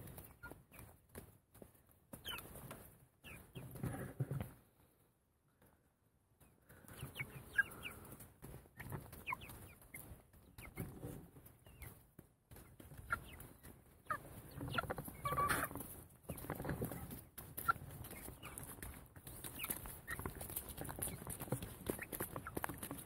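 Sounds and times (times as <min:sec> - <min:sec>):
hens clucking and peeping: 0:00.0 - 0:23.0.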